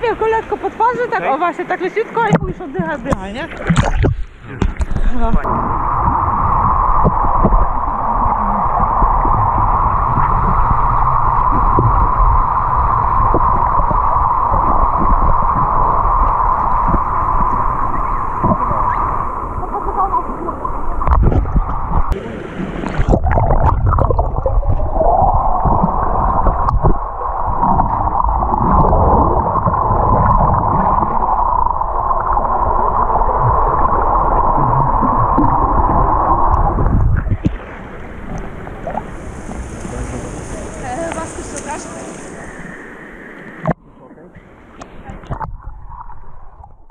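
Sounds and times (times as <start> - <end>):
underwater droning hum: 0.0 - 46.9
bubbling water: 2.4 - 43.8.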